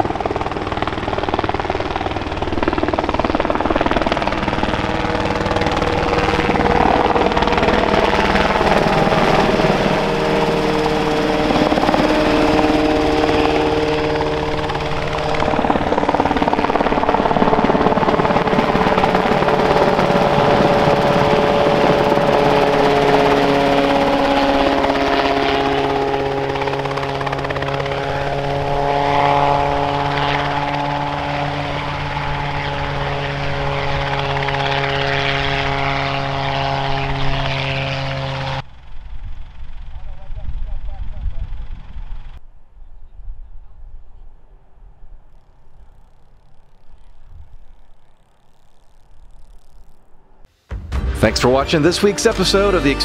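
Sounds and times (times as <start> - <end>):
helicopters flying overhead: 0.0 - 42.4, 51.7 - 53.0.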